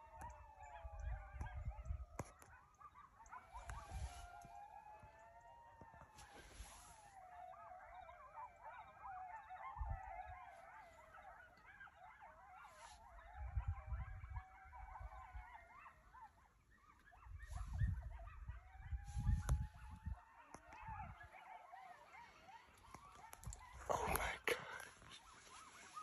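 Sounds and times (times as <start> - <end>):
coyotes howling and yipping: 0.0 - 26.0.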